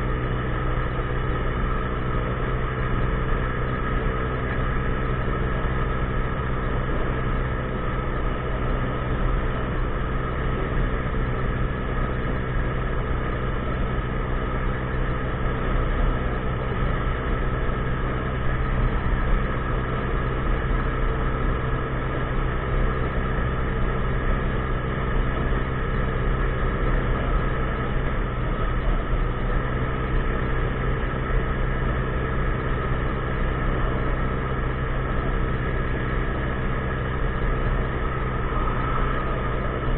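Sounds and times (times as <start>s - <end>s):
constant rushing noise: 0.0s - 39.9s
scooter engine running: 0.0s - 39.9s.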